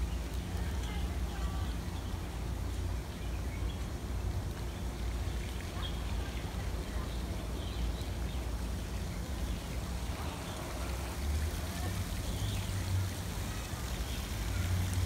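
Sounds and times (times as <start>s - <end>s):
steady low rumble: 0.0s - 13.9s
faint distant voices: 0.0s - 15.0s.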